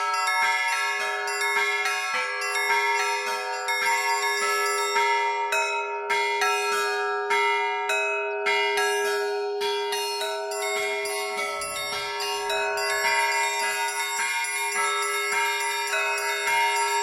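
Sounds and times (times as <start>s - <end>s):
hum of large bell: 0.0s - 17.0s
small high church bells ringing: 0.0s - 17.0s.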